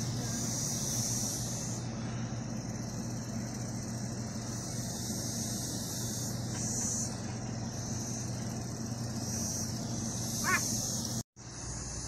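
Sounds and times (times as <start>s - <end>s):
cicadas droning: 0.0s - 12.0s
low steady hum: 0.0s - 12.0s.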